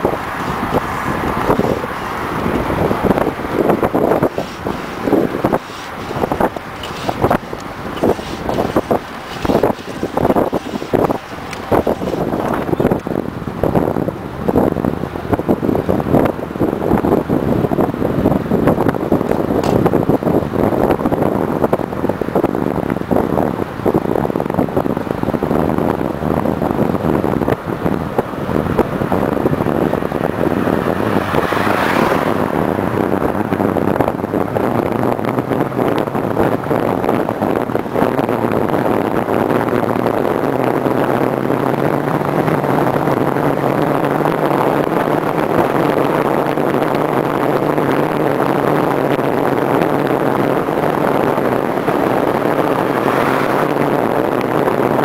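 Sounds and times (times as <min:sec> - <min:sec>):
bicycle tyres on asphalt: 0:00.0 - 0:55.0
wind rushing over microphone: 0:00.0 - 0:55.0.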